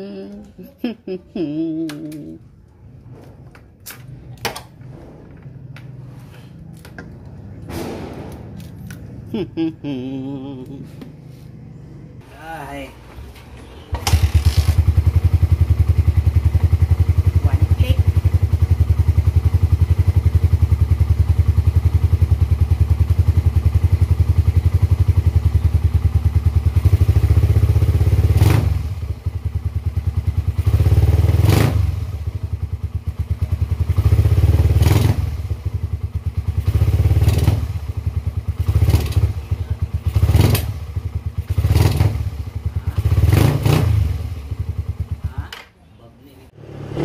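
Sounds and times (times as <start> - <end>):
motorcycle engine idling and revving: 2.0 - 45.8, 46.5 - 47.0.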